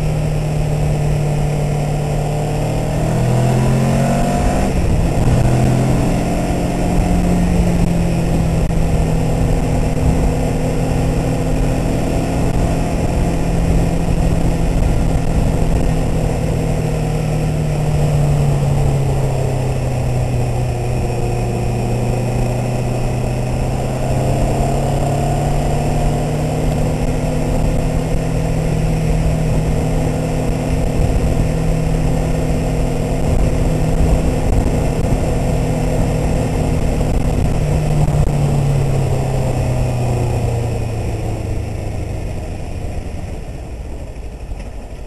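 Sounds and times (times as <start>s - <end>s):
motorcycle engine cruising: 0.0s - 45.0s
wind rumble on microphone: 0.0s - 45.0s.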